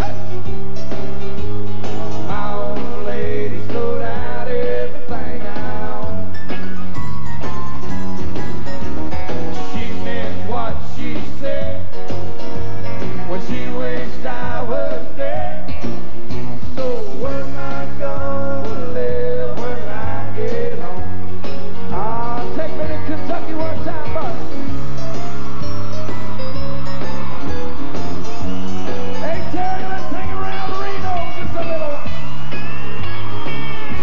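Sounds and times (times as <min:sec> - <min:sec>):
drum beats: 0:00.0 - 0:15.2, 0:15.8 - 0:34.0
bass line: 0:00.0 - 0:34.0
sliding lead melody: 0:00.0 - 0:34.0.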